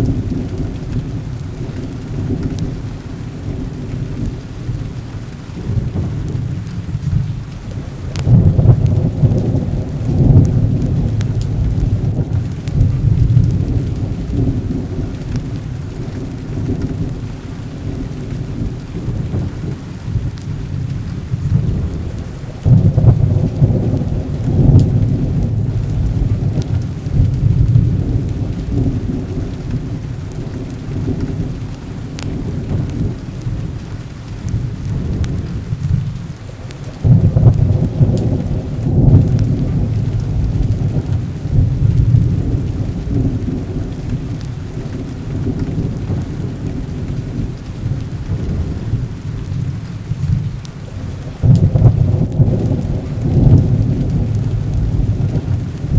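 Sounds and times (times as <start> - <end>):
rolling thunder: 0.0 - 55.9
steady rain: 0.0 - 55.9.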